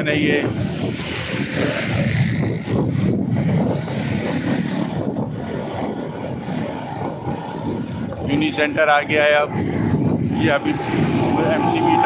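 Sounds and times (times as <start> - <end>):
motorcycle wind and road noise: 0.0 - 12.0.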